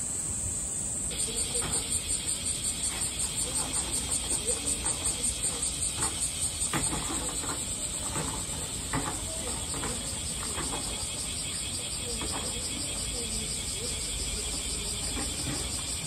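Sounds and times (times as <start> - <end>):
cicadas hissing: 0.0 - 16.0
faint distant voices: 1.1 - 16.0.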